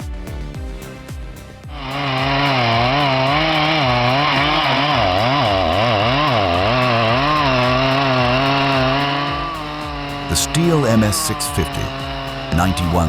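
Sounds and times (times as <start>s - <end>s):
chainsaw revving: 1.7s - 13.0s.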